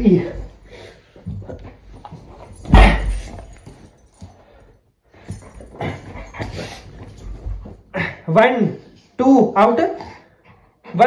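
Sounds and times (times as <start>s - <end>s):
man play-wrestling with dog: 0.0s - 11.0s.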